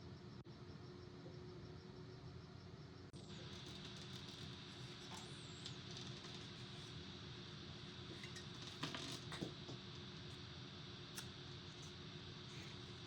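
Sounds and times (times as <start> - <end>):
faint steady hum and hiss: 0.0 - 13.0.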